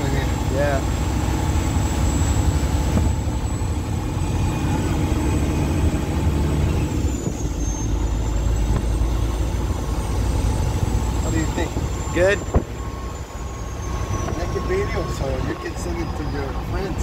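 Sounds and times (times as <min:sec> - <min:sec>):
diesel truck engine rumble: 0:00.0 - 0:17.0
road noise: 0:00.0 - 0:17.0.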